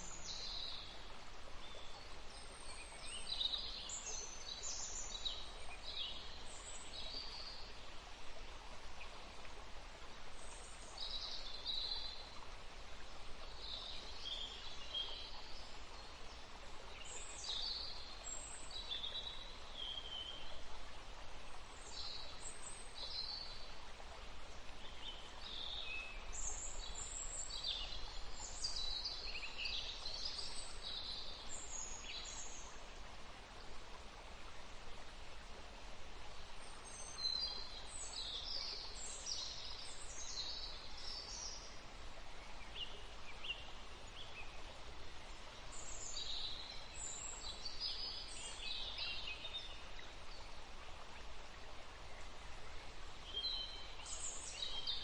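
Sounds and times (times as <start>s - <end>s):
outdoor background noise: 0.0s - 55.0s
songbirds chirping: 0.0s - 55.0s.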